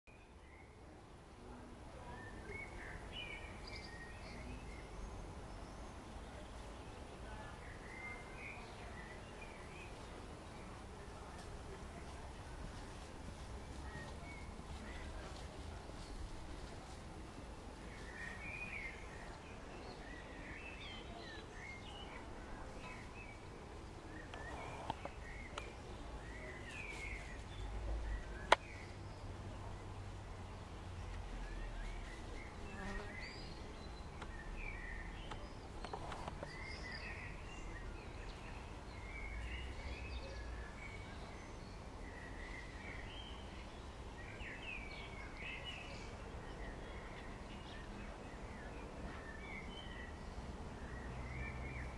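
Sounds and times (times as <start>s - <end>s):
small birds chirping: 0.1s - 51.9s.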